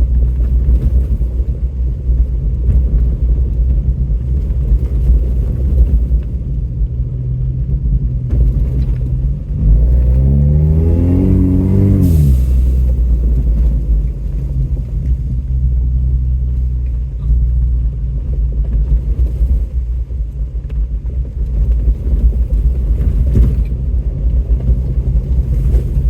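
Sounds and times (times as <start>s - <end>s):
truck engine low rumble: 0.0s - 26.0s.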